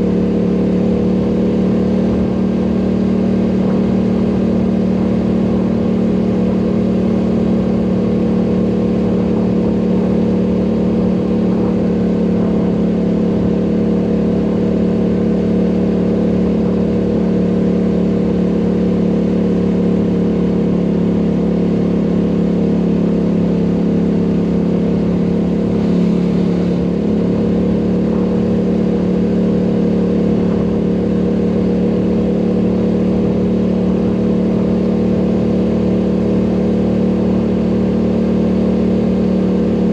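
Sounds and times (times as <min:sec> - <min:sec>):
atv engine humming: 0:00.0 - 0:39.9.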